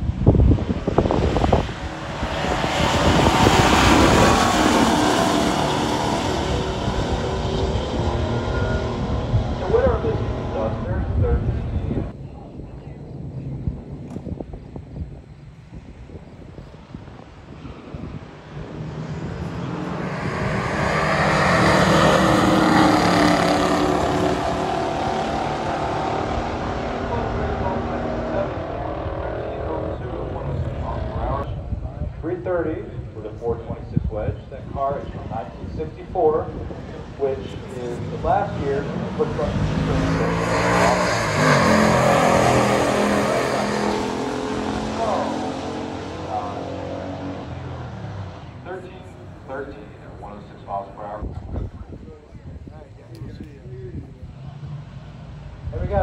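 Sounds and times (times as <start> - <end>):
car engines at full throttle: 0.0 - 56.0.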